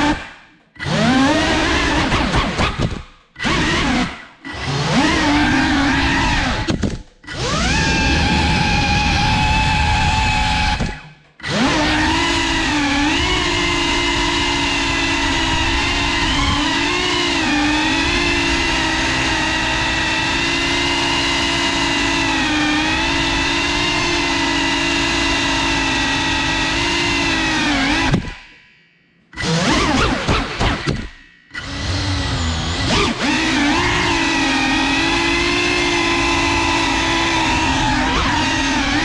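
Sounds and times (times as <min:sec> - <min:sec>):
drone motors whining: 0:00.0 - 0:39.0.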